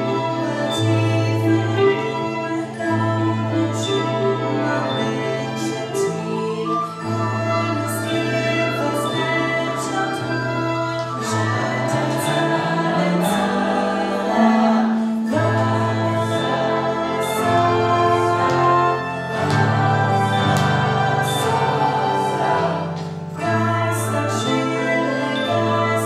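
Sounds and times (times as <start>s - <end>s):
instrumental accompaniment: 0.0s - 26.0s.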